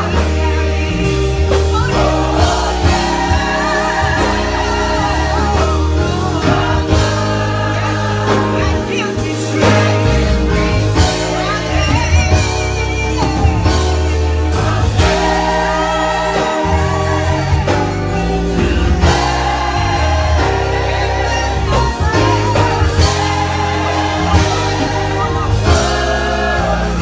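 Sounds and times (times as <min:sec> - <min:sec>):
choir singing with vibrato: 0:00.0 - 0:27.0
instrumental accompaniment: 0:00.0 - 0:27.0
steady bass line: 0:00.0 - 0:27.0.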